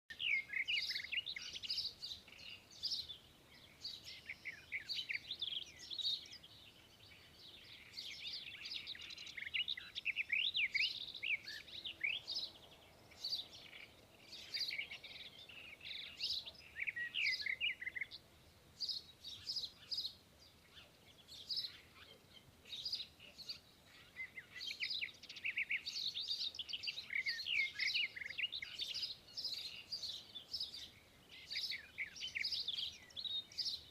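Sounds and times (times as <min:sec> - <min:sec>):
small birds chirping and twittering: 0:00.1 - 0:33.9.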